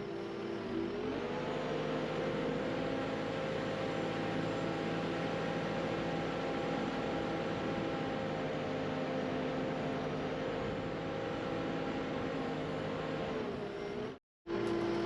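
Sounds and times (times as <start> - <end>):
heavy equipment engine revving: 0.0 - 15.0.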